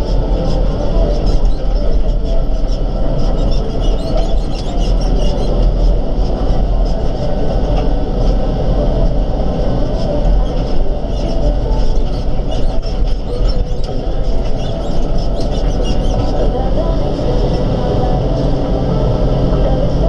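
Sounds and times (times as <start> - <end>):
tractor engine rumbling: 0.0 - 20.0
tractor rattling and clattering: 0.0 - 20.0.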